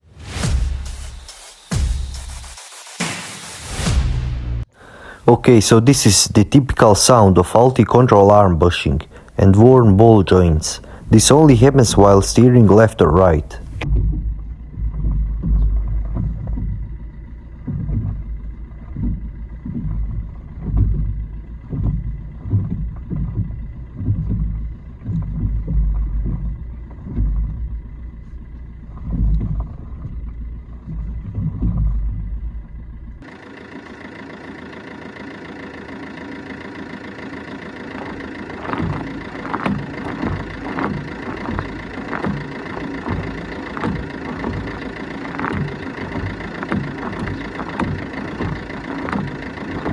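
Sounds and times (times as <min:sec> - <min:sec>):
diesel engine idling: 0:03.7 - 0:49.9
suspension deep clunks: 0:03.8 - 0:49.9.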